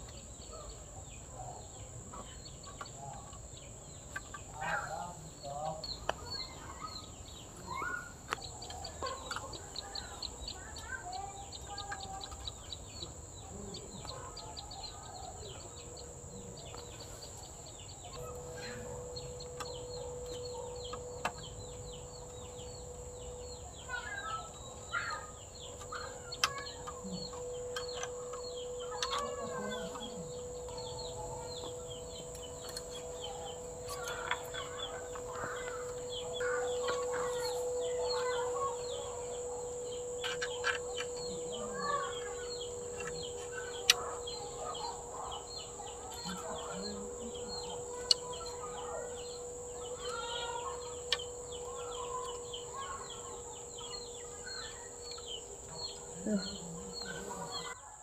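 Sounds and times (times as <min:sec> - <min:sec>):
high-pitched hiss: 0:04.6 - 0:57.8
chickens clucking: 0:05.9 - 0:57.8.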